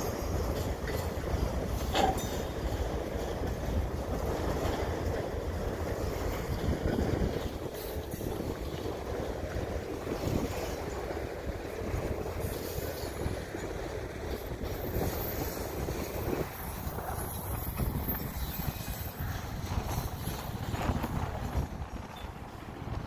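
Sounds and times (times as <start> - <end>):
freight train wheels rumbling and clicking: 0.0 - 23.0.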